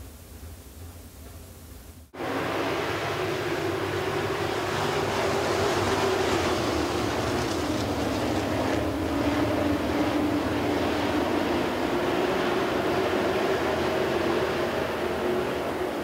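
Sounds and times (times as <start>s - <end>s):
race car engines droning: 2.2s - 16.0s.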